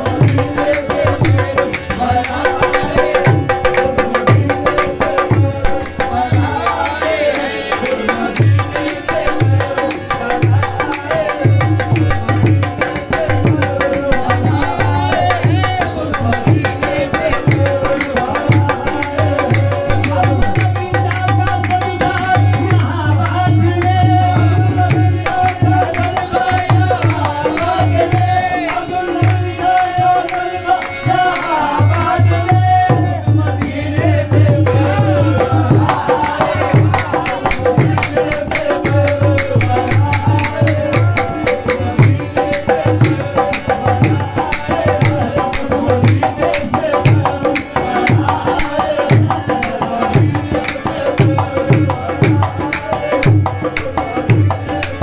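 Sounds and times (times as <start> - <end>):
harmonium tones: 0.0 - 55.0
tabla beat: 0.0 - 55.0.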